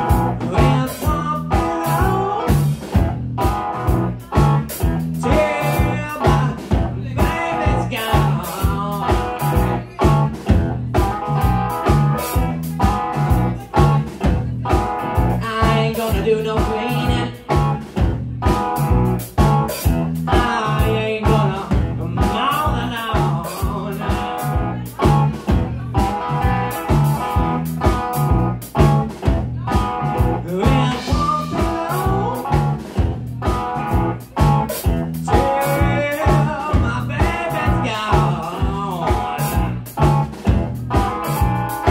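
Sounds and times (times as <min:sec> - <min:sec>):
bass guitar: 0:00.0 - 0:41.9
distorted electric guitar: 0:00.0 - 0:41.9
drum kit beat: 0:00.0 - 0:41.9.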